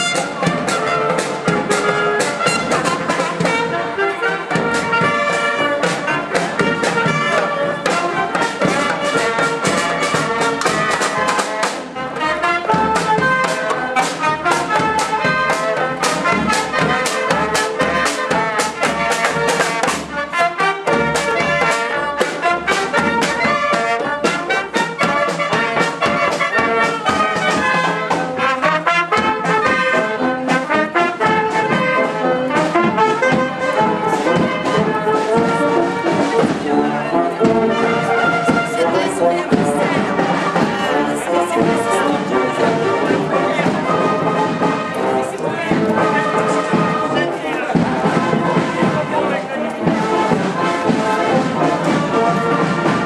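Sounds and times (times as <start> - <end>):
brass band music: 0.0 - 53.0
drum beat: 0.0 - 53.0.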